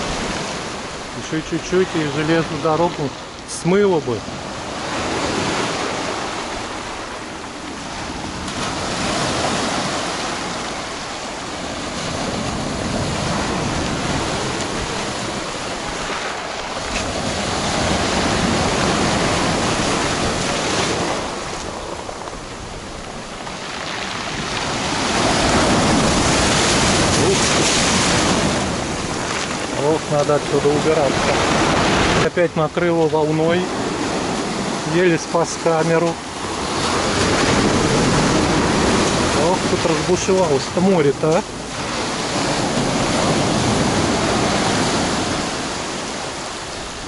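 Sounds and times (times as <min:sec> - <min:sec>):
heavy waves breaking on shore: 0:00.0 - 0:47.0.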